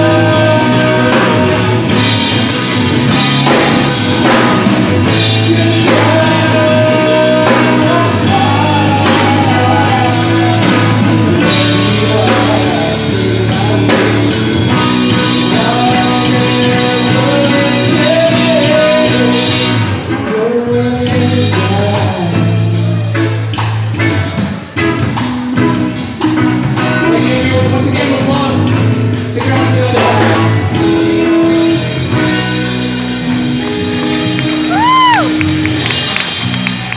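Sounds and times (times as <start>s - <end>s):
person singing: 0.0s - 2.7s, 3.4s - 36.2s
live rock band playing: 0.0s - 36.9s.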